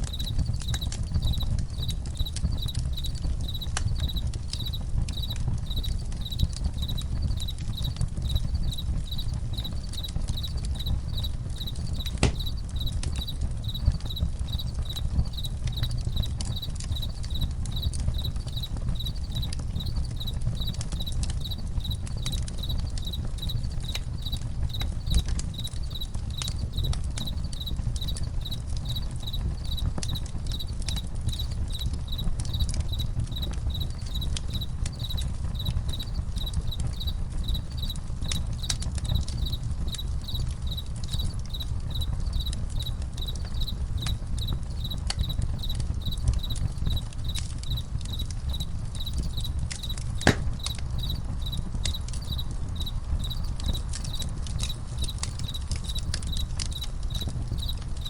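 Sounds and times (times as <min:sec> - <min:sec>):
campfire crackling: 0:00.0 - 0:58.0
crickets chirping: 0:00.1 - 0:58.0.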